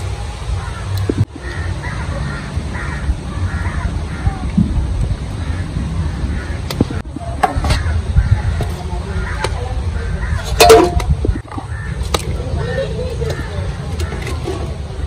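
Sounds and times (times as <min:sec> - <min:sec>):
faint voices: 0:00.0 - 0:15.0
steady low rumble: 0:00.0 - 0:15.0.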